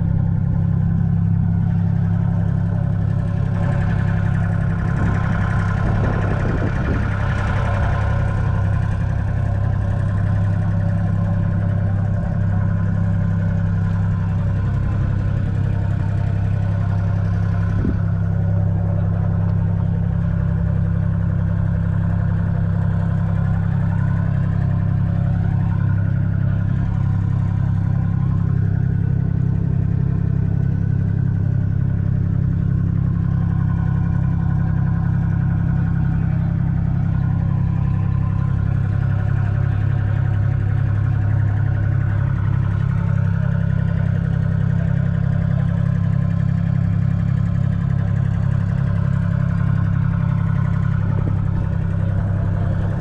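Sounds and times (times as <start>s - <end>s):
diesel tractor engine idling: 0.0s - 53.0s.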